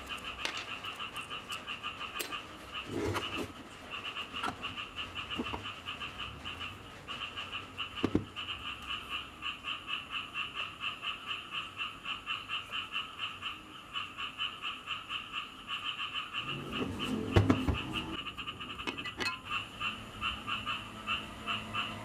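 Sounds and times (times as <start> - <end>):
frogs croaking: 0.0 - 22.0.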